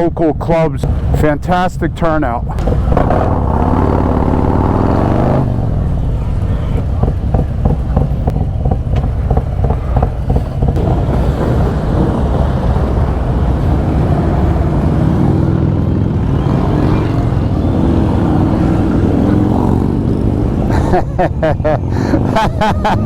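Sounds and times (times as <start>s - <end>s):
motorcycle engines running: 0.8s - 1.5s, 2.4s - 23.0s.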